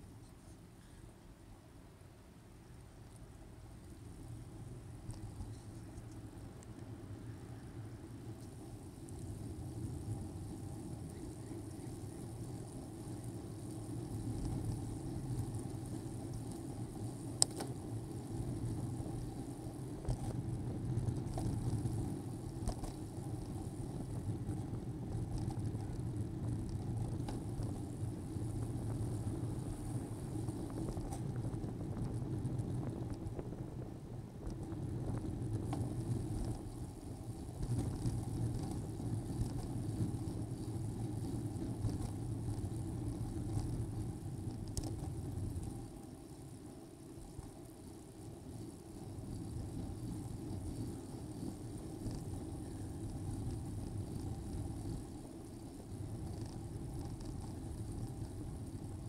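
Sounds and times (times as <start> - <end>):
bicycle road and wind noise: 0.0 - 59.0.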